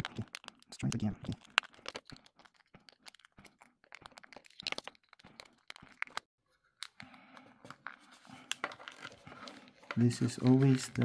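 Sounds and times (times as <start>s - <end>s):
plastic clicks and crackles: 0.0s - 11.0s.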